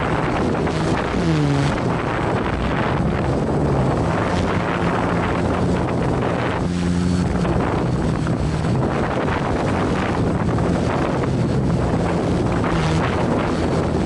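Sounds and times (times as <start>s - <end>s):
drone motors humming: 0.0s - 14.0s
wind buffeting microphone: 0.0s - 14.0s.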